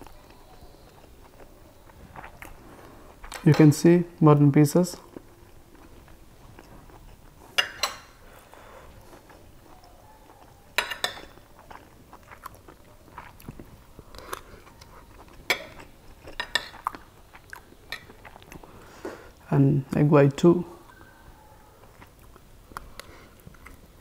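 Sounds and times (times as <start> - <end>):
chewing food: 0.0 - 3.7, 4.9 - 19.5, 20.8 - 24.0.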